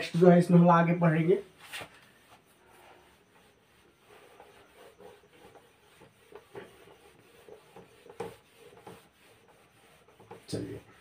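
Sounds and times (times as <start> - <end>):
whiteboard being wiped: 0.0 - 11.0.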